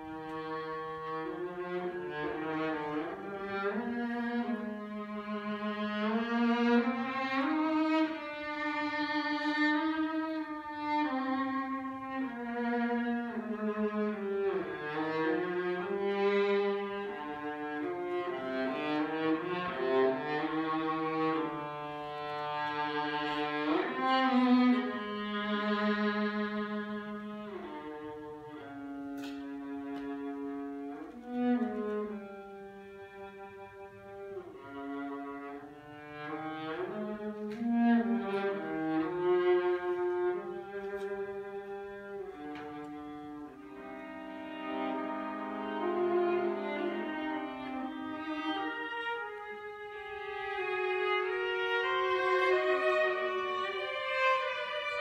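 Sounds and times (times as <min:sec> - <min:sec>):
viola playing slow melody: 0:00.0 - 0:55.0.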